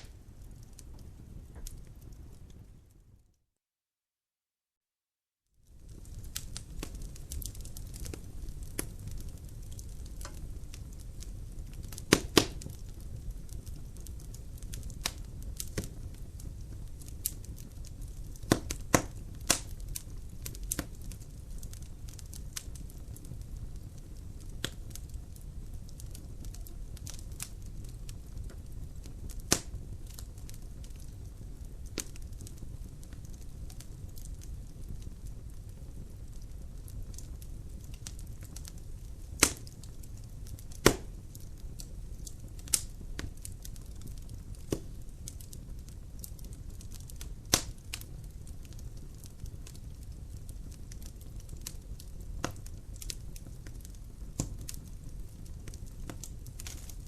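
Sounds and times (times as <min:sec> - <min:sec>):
logs crackling and popping: 0:00.0 - 0:03.1, 0:05.6 - 0:57.0
fire rumbling: 0:00.0 - 0:03.3, 0:05.6 - 0:57.0.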